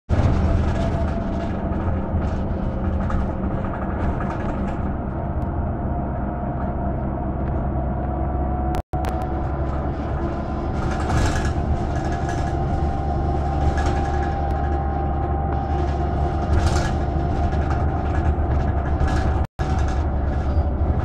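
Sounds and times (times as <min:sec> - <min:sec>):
bus engine hum: 0:00.1 - 0:21.0
road noise and rattles: 0:00.1 - 0:21.0.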